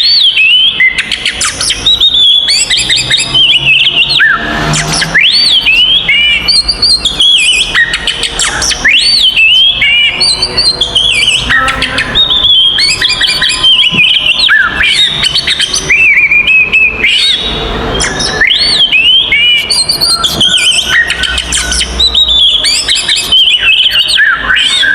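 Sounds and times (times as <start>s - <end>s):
bird singing loudly: 0.0s - 24.9s.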